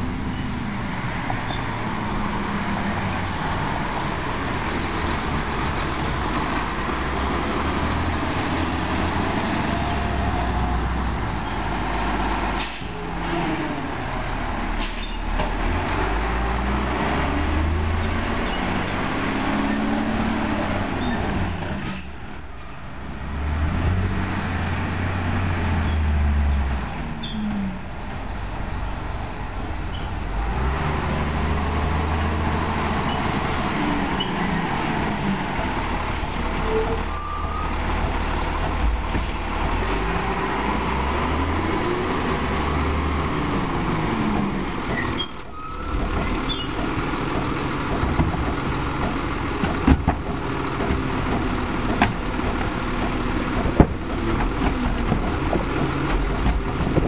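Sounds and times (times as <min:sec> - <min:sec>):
garbage truck diesel engine revving: 0:00.0 - 0:22.0, 0:23.4 - 0:28.6, 0:30.2 - 0:57.0.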